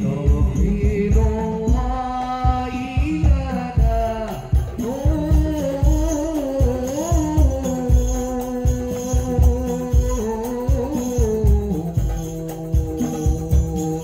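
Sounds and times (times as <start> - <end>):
frame drums beating: 0.0 - 14.0
men singing into microphones: 0.0 - 14.0
tambourine jingles: 0.0 - 14.0.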